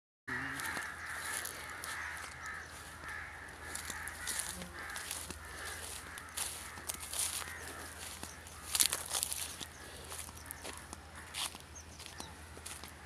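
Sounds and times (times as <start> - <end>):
chorus of bird calls: 0.3 - 13.0
footsteps on dry leaves: 0.4 - 13.0.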